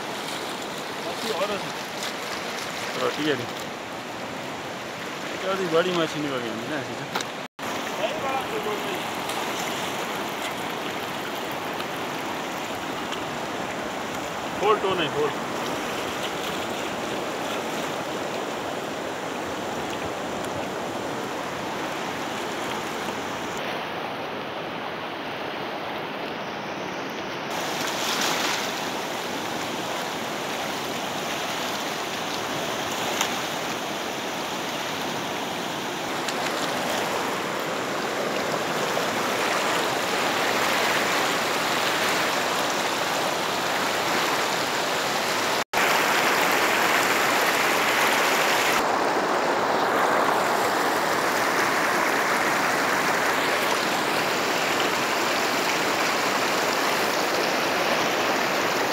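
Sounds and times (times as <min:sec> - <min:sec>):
river water rushing over rocks: 0:00.0 - 0:58.9.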